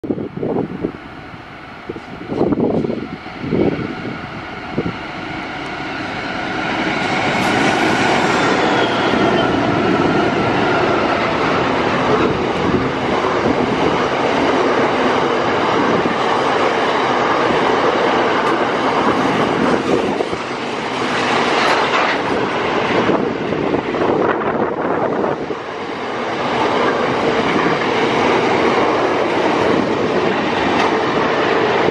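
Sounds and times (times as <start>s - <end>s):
diesel locomotive engines: 0.0s - 31.9s
train wheels rattling on rails: 0.0s - 31.9s.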